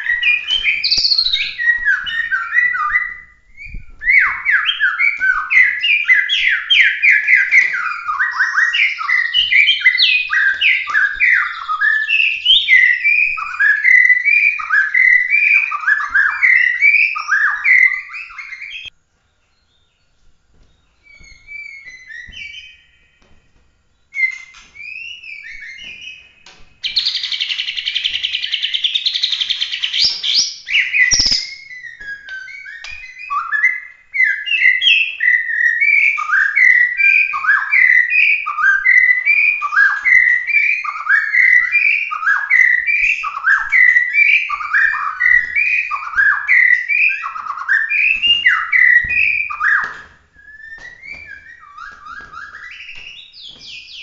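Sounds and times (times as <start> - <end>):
bird singing whistled phrases: 0.0 - 18.9, 21.0 - 23.4, 24.0 - 54.0
downward-swooping whistled notes: 0.0 - 20.1, 20.7 - 54.0.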